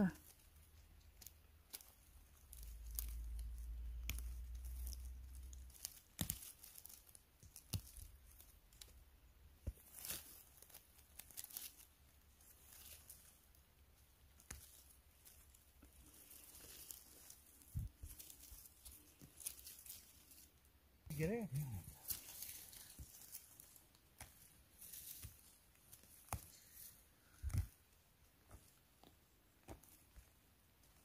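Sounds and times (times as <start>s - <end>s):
moss and twigs rustling: 0.0s - 31.0s
twigs snapping: 0.2s - 20.6s, 21.8s - 31.0s.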